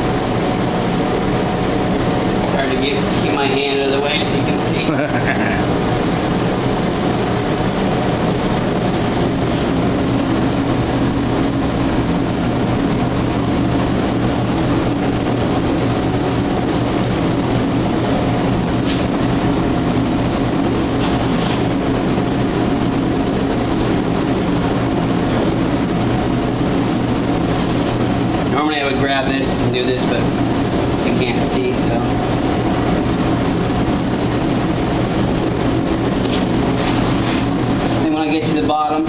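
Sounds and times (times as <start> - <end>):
loud machine drone: 0.0 - 39.0.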